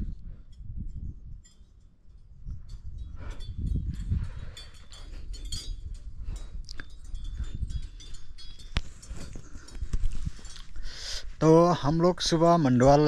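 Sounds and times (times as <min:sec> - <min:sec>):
small metal bells jingling: 0:00.3 - 0:13.0.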